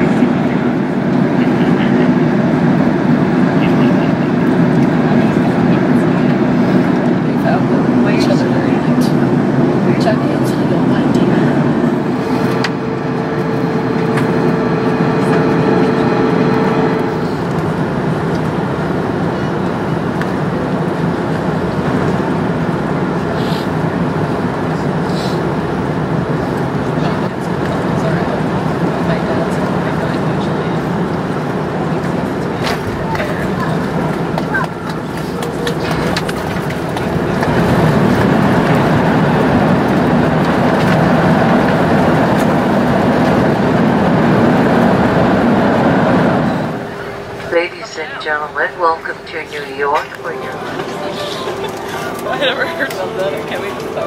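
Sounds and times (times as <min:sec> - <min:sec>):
airplane cabin roar: 0:00.0 - 0:54.0.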